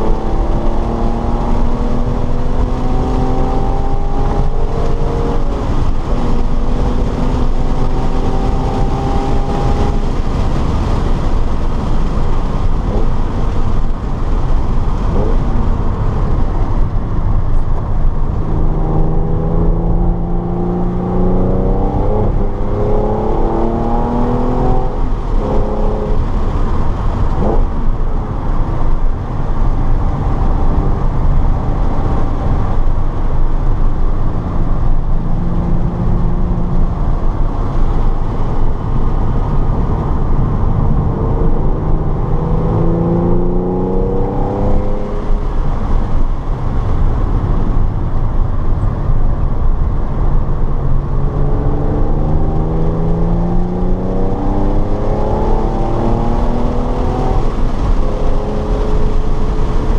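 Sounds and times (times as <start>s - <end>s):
car engine under load: 0.0s - 59.9s
road and wind noise: 0.0s - 59.9s.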